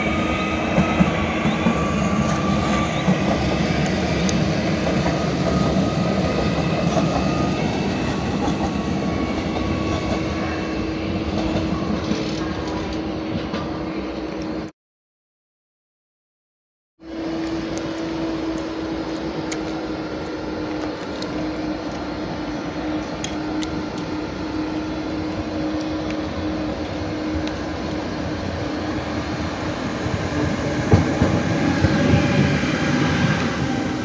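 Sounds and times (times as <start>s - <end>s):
electric locomotive passing: 0.0s - 14.7s, 17.0s - 34.0s.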